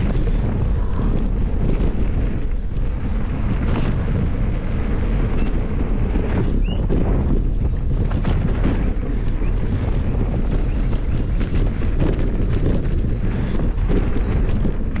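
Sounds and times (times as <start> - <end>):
bike clicks and rattles: 0.0 - 15.0
bike tyres on dirt trail: 0.0 - 15.0
wind buffeting microphone: 0.0 - 15.0.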